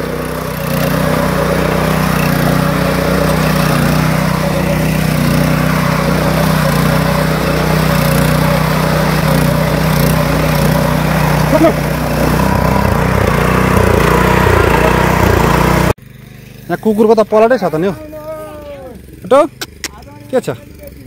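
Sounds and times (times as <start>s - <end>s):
power tiller engine running: 0.0s - 21.0s.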